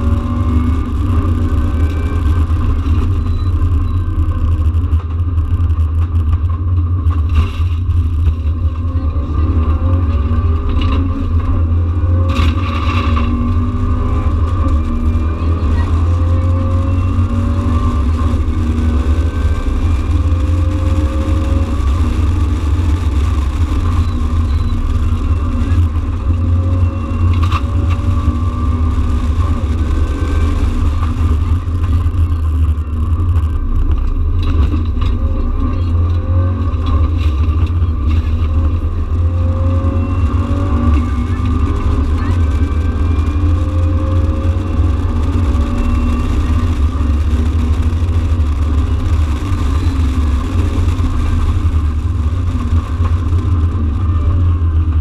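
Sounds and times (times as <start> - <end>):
rally car engine revving: 0.0 - 55.0
road noise rumble: 0.0 - 55.0.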